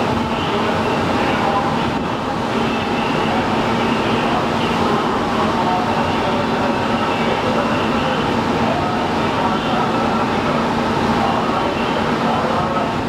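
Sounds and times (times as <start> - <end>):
low machinery hum: 0.0 - 13.0
sea water rushing along hulls: 0.0 - 13.0.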